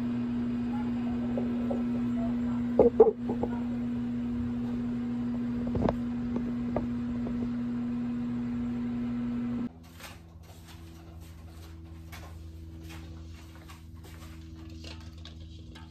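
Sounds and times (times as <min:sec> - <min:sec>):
microwave oven humming: 0:00.0 - 0:15.9.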